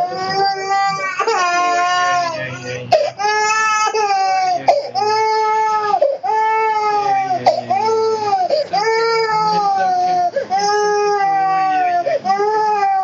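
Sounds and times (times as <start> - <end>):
baby crying: 0.0 - 13.0.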